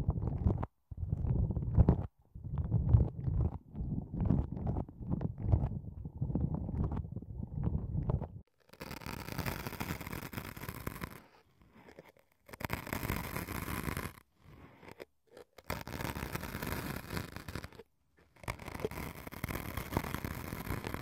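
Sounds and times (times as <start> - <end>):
ear-pick scratching sponge: 0.0 - 21.0.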